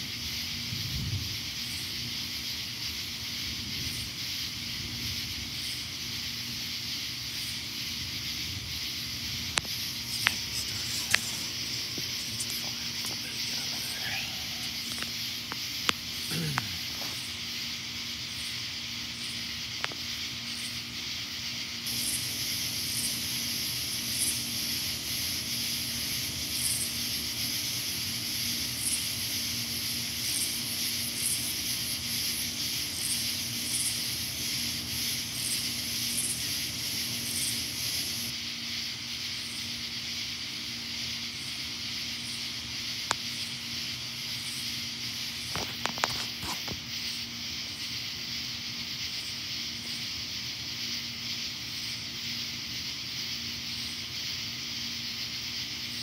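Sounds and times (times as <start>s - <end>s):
insects droning: 0.0s - 56.0s
pulsing insect chirp: 0.0s - 56.0s.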